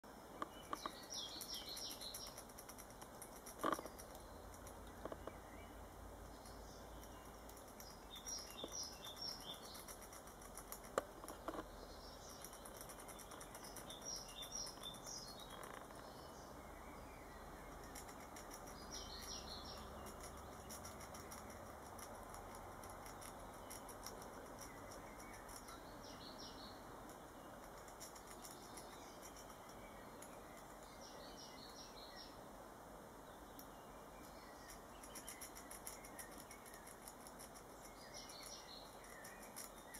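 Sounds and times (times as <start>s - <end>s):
small birds chirping: 0.0s - 39.9s
squirrel gnawing bone: 0.3s - 5.4s, 6.2s - 16.1s, 17.7s - 31.1s, 34.6s - 39.9s.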